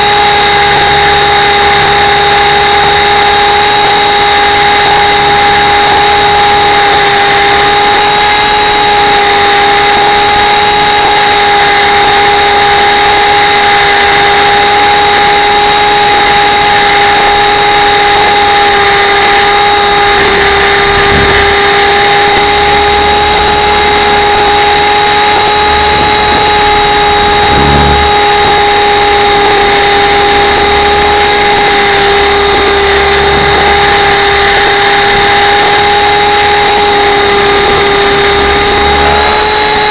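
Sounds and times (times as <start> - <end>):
helicopter rotors whining: 0.0 - 39.9.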